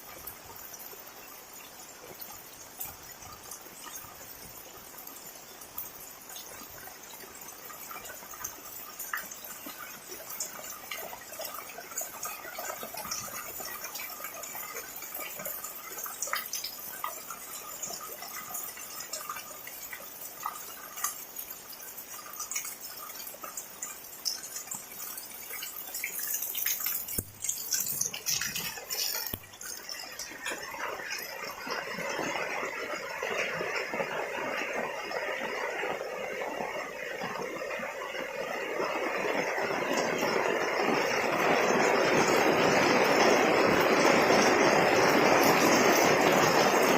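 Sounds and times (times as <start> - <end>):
dense wash of water: 0.0 - 46.9
heavy rain with drips and splashes: 0.0 - 46.9.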